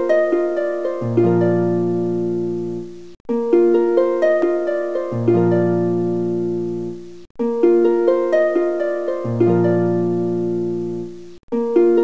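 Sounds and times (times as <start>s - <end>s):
plucked notes in broken chord: 0.0s - 12.0s.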